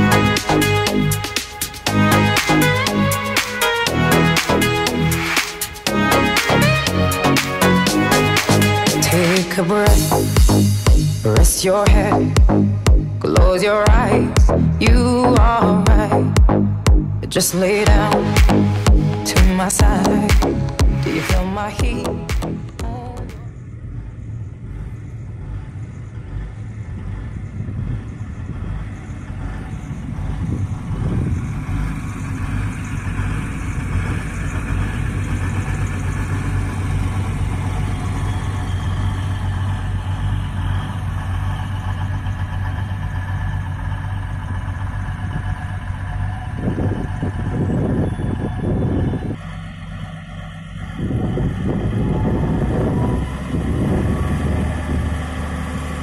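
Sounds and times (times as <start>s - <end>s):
wheel and track noise: 0.0s - 11.8s, 22.6s - 56.0s
rail vehicle engine hum: 0.0s - 56.0s.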